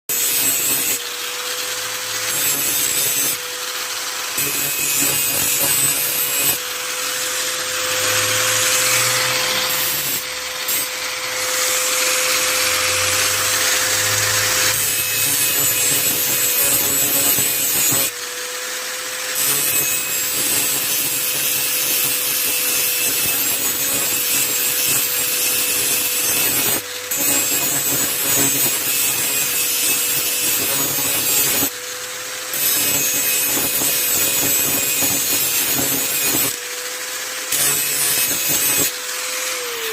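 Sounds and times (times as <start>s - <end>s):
angle grinder grinding metal blade: 0.1s - 39.9s.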